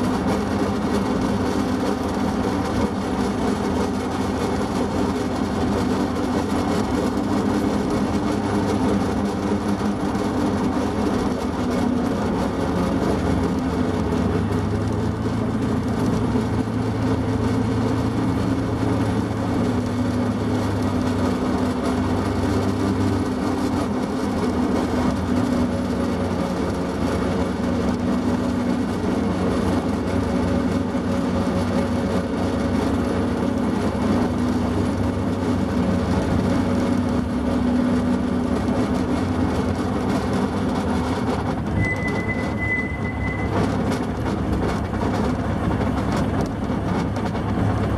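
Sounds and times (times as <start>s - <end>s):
locomotive engine low drone: 0.0s - 47.9s.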